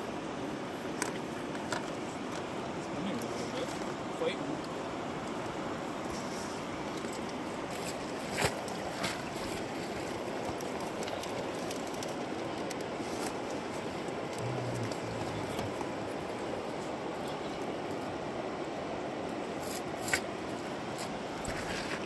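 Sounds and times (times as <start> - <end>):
river water rushing: 0.0 - 21.5.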